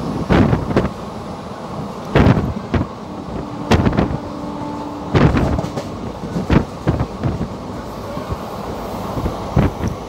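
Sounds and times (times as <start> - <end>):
train coach rumbling: 0.0 - 10.0.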